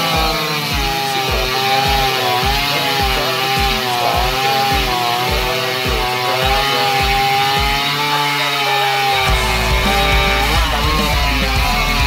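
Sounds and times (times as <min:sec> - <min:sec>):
music with steady bass beat: 0:00.0 - 0:08.0, 0:09.2 - 0:12.0
chainsaw cutting a log: 0:00.0 - 0:12.0.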